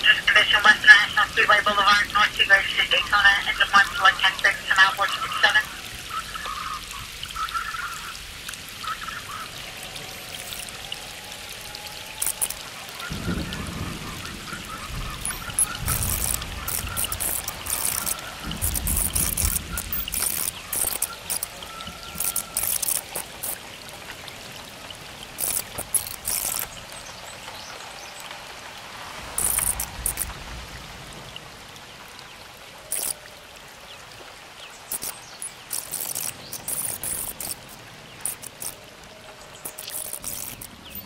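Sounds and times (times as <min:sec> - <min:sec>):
rain falling: 0:00.0 - 0:41.0
water running: 0:00.0 - 0:41.0.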